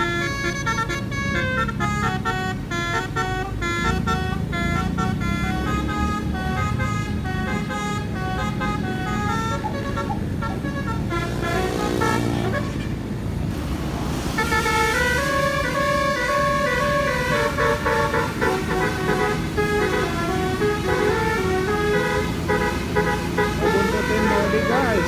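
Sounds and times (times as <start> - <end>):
multi-tone air horn tune: 0.0 - 13.2, 14.1 - 25.0.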